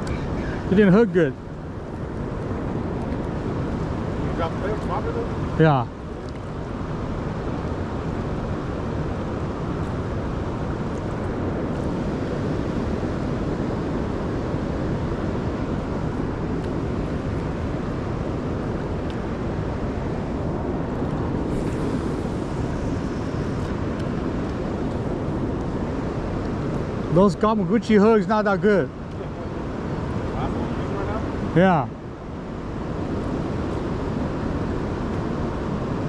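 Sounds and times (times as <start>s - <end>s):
river current rushing: 0.0s - 36.0s.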